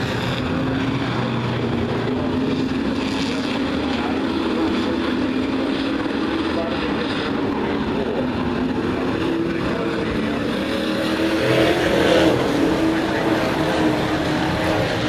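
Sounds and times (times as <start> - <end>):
race truck engines: 0.0 - 15.0.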